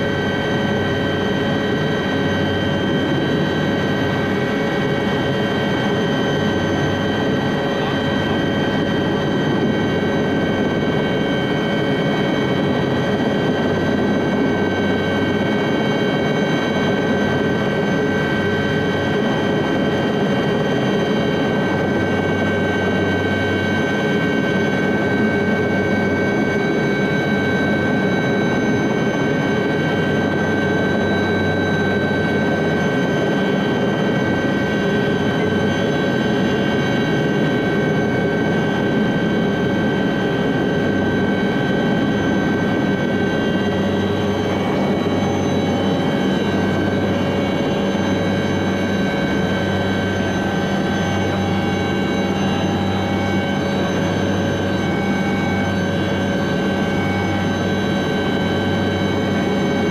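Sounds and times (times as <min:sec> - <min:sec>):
helicopter rotor low rumble: 0:00.0 - 0:59.9
helicopter turbine whine: 0:00.0 - 0:59.9.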